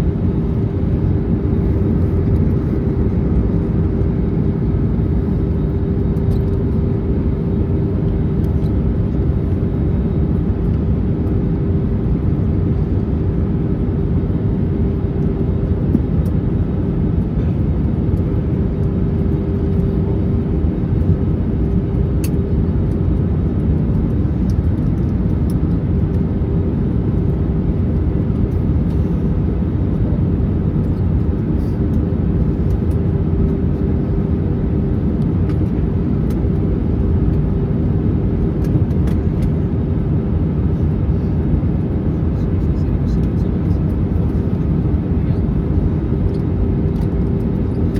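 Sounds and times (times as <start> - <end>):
airflow rushing in aircraft cabin: 0.0 - 47.9
jet engines droning: 0.0 - 47.9
steady hum: 0.0 - 47.9.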